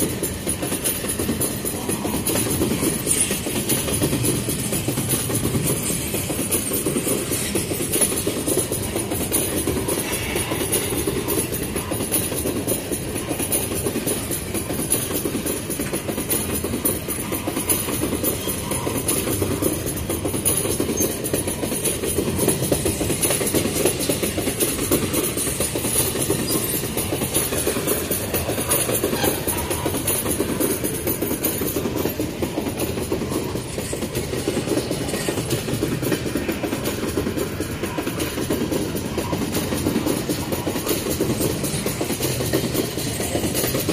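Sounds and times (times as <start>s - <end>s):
train wheels rumbling on rails: 0.0s - 43.9s
wagons knocking and clanking: 0.0s - 43.9s.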